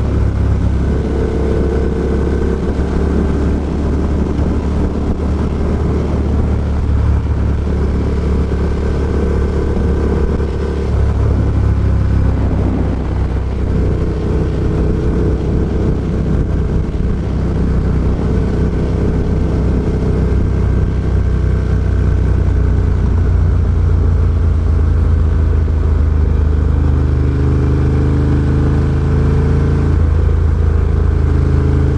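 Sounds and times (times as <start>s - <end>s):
motorcycle engine while riding: 0.0s - 31.9s.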